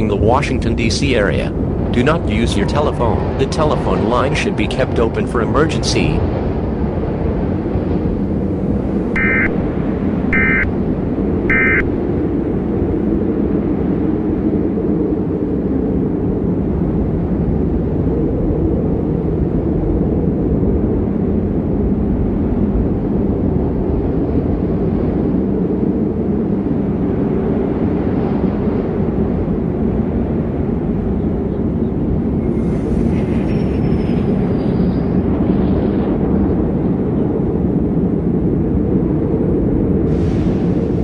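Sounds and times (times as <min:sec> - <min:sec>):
deep rumbling noise: 0:00.0 - 0:41.0.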